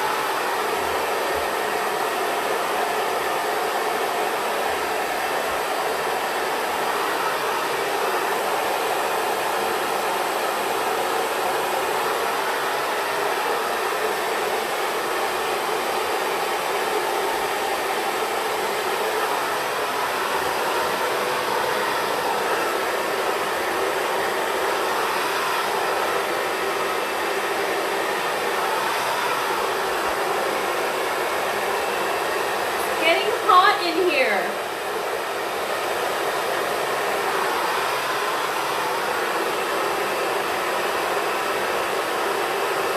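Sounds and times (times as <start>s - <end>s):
hair dryer blowing: 0.0s - 42.9s.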